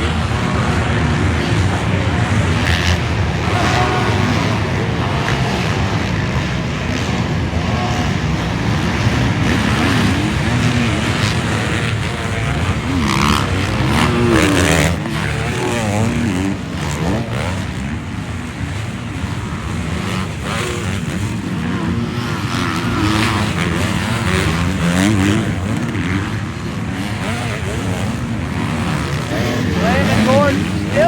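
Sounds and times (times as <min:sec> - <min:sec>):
motocross bikes revving: 0:00.0 - 0:31.0.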